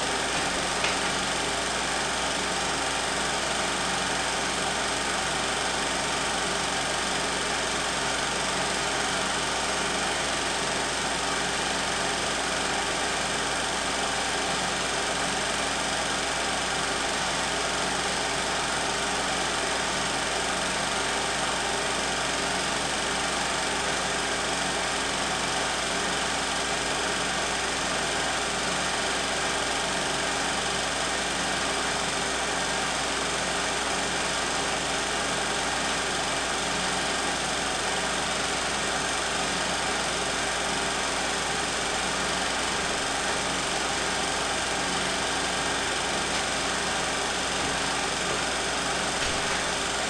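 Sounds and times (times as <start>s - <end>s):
film projector whirring: 0.0s - 50.0s.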